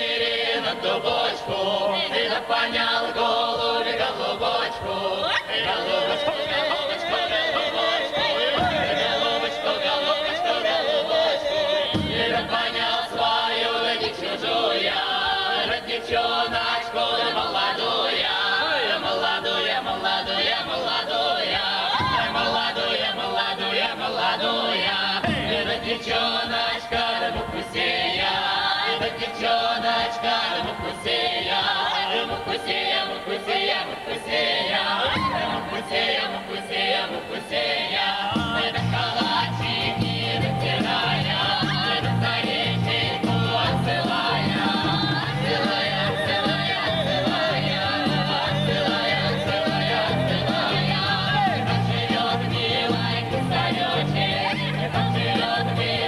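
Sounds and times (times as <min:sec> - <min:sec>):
mixed choir singing folk song: 0:00.0 - 0:56.0.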